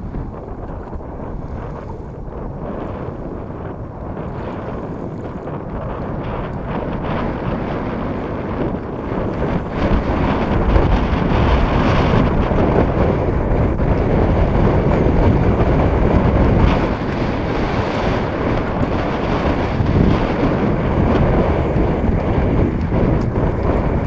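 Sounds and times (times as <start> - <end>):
wind buffeting the microphone: 0.0 - 24.0.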